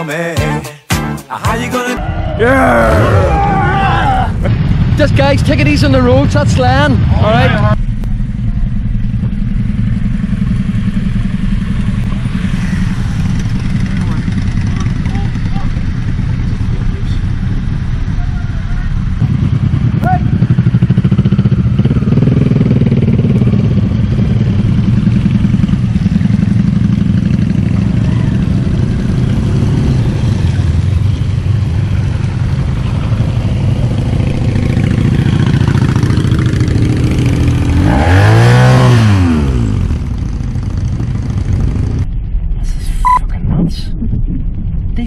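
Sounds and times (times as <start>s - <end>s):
motorcycle revving: 2.0s - 42.4s
motorcycles engine drone: 2.0s - 45.0s.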